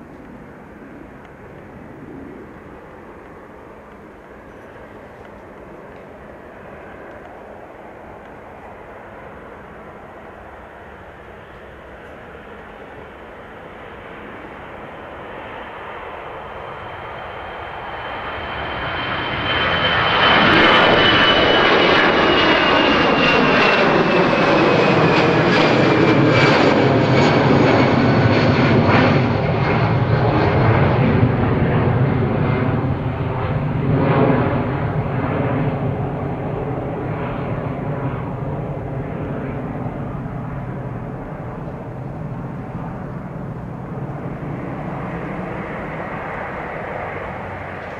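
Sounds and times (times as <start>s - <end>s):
jet airliner taking off: 0.0s - 47.9s.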